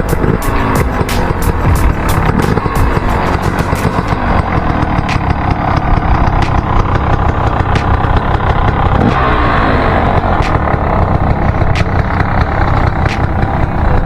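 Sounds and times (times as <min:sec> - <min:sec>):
dirt bike engines idling: 0:00.0 - 0:14.0.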